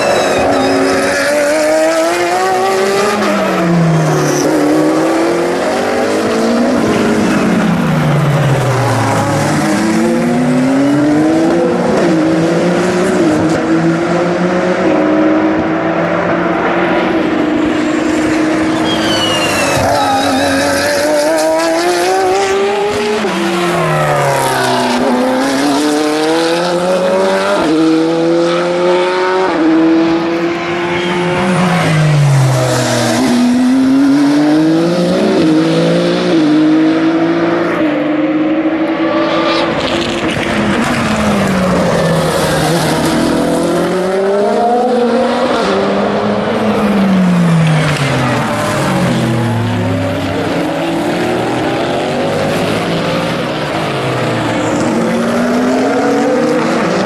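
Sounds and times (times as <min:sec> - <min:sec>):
race cars passing: 0:00.0 - 0:57.0.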